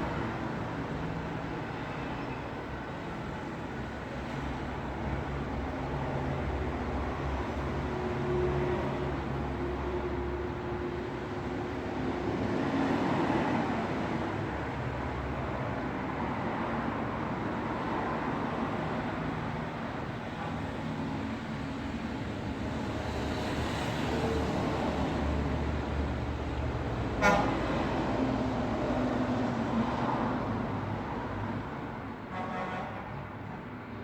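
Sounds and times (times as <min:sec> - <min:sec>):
road traffic hum: 0:00.0 - 0:34.0.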